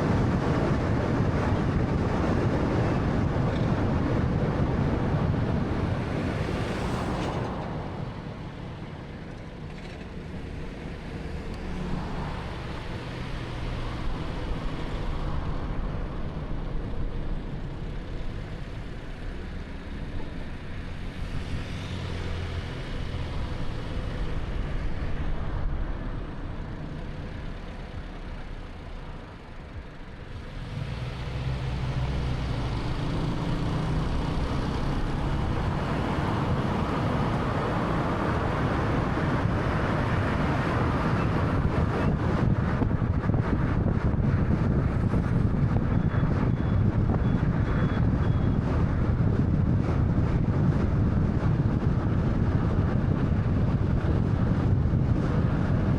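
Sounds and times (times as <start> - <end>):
car engine hum: 0.0 - 55.9
tyre and road noise: 0.0 - 55.9.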